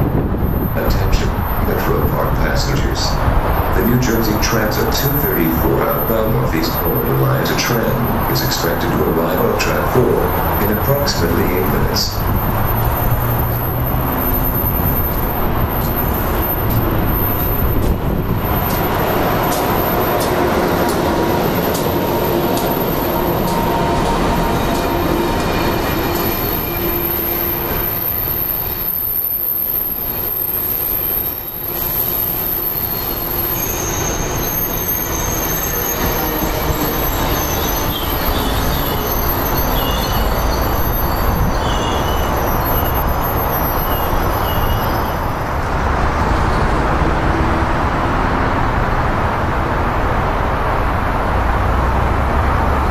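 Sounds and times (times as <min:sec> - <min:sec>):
high wheel squeals: 0:00.0 - 0:46.7
train wheels rumbling on rails: 0:00.0 - 0:52.9.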